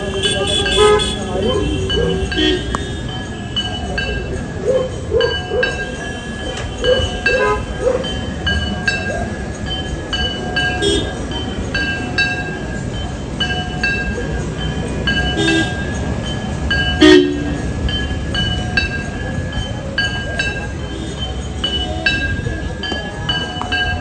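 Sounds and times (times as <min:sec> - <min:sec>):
temple bells ringing: 0:00.0 - 0:24.0.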